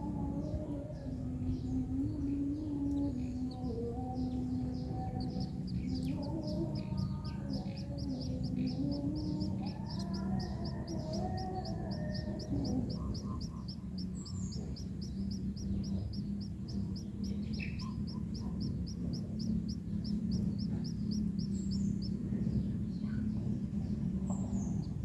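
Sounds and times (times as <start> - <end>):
steady low hum: 0.0 - 25.0
birds chirping: 0.3 - 25.0.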